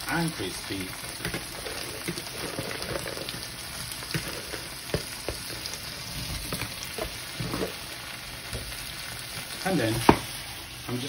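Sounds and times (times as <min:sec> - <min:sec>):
oil popping and crackling: 0:00.0 - 0:11.0
potatoes sizzling in a hot pan: 0:00.0 - 0:11.0.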